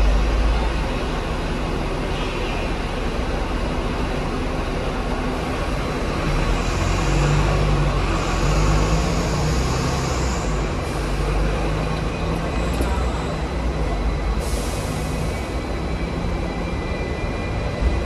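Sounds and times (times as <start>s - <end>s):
low tram motor hum: 0.0s - 18.0s
tram wheels rumbling on rail: 0.0s - 18.0s.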